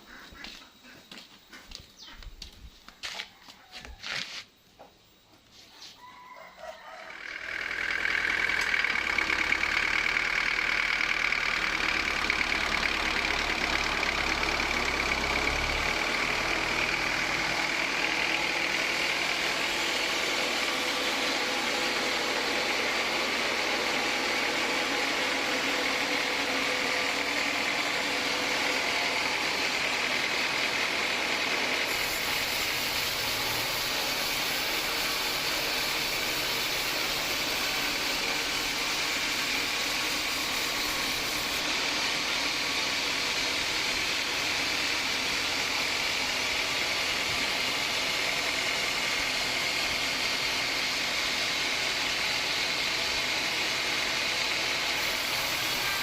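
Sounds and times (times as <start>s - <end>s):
band sawmill whirring: 6.2s - 56.0s.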